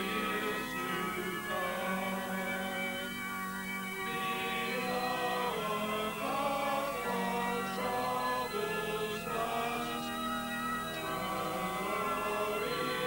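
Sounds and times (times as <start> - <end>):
group singing a hymn: 0.0 - 13.0.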